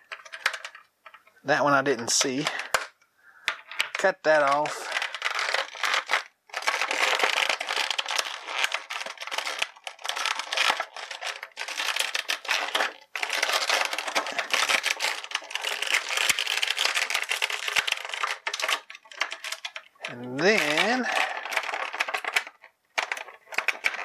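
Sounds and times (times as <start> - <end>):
plastic packaging crinkling: 0.0 - 2.9, 3.6 - 24.0.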